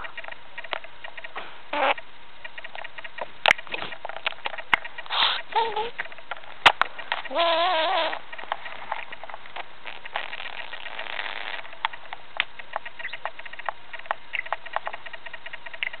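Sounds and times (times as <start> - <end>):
budgie pecking with its beak: 0.0 - 16.0.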